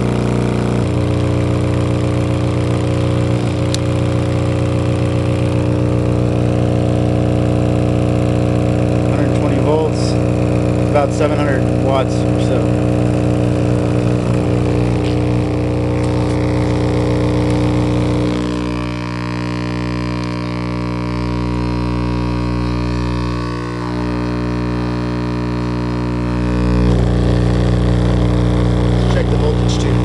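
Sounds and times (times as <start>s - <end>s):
loud steady subwoofer hum: 0.0s - 30.0s.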